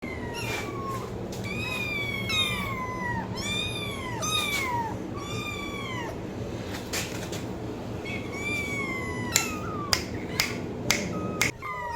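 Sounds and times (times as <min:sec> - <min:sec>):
cat meowing: 0:00.0 - 0:06.2, 0:08.0 - 0:11.9.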